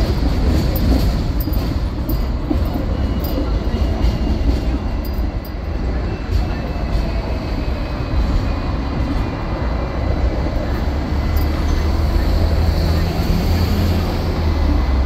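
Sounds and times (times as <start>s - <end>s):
tram wheels rumbling: 0.0s - 15.0s.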